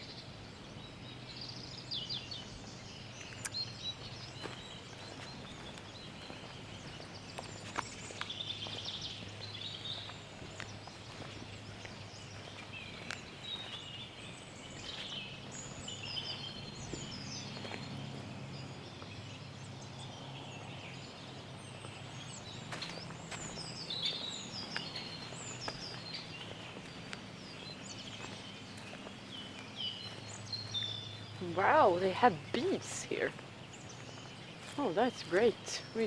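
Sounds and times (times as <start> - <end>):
songbirds chorus: 0.0 - 36.0.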